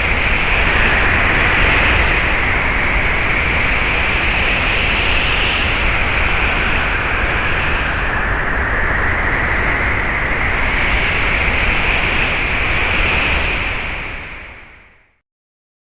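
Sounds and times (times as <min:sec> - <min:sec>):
wind blowing: 0:00.0 - 0:14.9.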